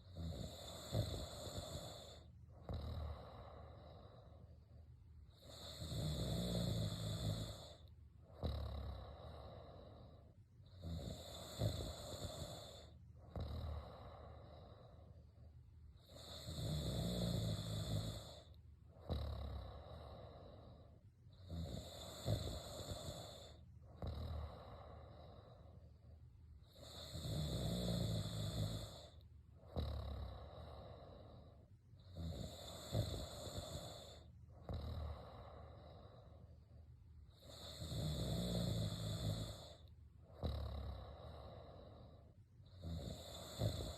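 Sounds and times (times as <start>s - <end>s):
loud harsh snore: 0.0s - 4.3s, 5.4s - 7.8s, 10.8s - 14.9s, 16.0s - 20.8s, 21.4s - 25.6s, 26.7s - 36.3s, 37.4s - 39.8s, 40.4s - 43.9s
person snoring: 0.0s - 4.6s, 5.3s - 15.2s, 16.0s - 26.0s, 26.6s - 36.5s, 37.3s - 43.9s.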